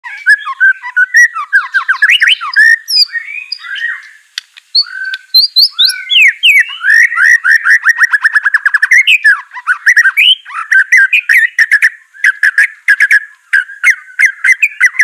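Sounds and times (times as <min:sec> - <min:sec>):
songbird singing whistles and chips: 0:00.0 - 0:15.0.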